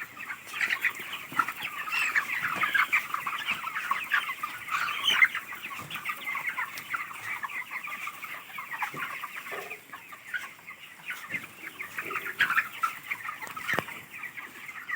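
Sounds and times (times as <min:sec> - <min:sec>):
flock of chickens calling: 0:00.0 - 0:14.9.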